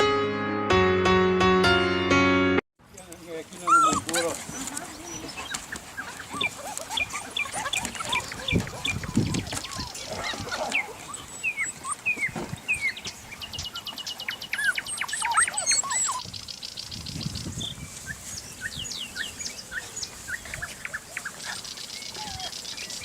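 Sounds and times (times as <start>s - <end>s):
birds calling: 3.0s - 23.0s.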